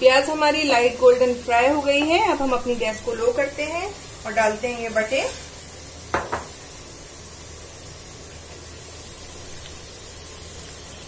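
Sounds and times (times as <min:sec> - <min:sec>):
oil and onions sizzling: 0:00.0 - 0:11.0.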